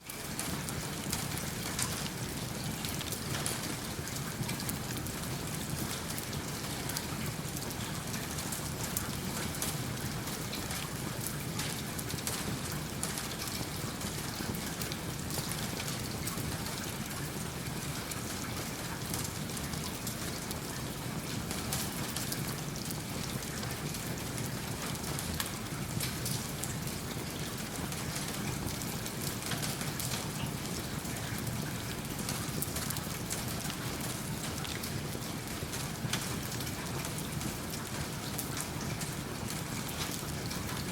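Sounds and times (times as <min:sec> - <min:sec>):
rain falling: 0:00.0 - 0:40.9
wood fire crackling: 0:00.1 - 0:40.9.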